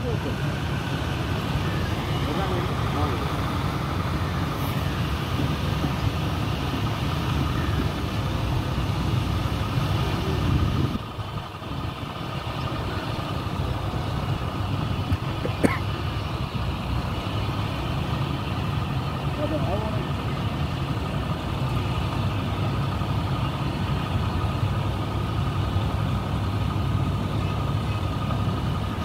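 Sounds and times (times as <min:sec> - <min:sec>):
diesel engines idling: 0:00.0 - 0:29.0.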